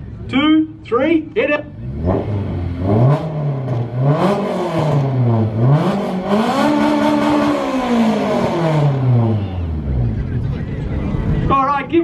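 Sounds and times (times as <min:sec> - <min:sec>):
car engine revving: 0:01.6 - 0:11.5.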